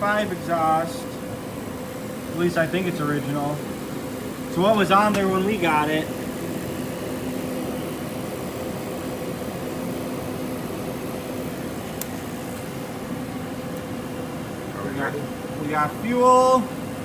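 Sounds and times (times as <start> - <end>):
mechanical hum with low drone: 0.0 - 17.0.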